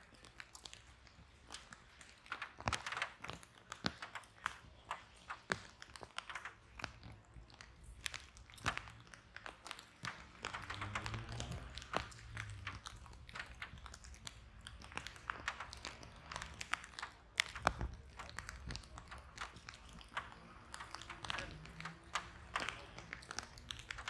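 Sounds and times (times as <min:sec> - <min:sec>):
wood fire popping and snapping: 0:00.0 - 0:24.0.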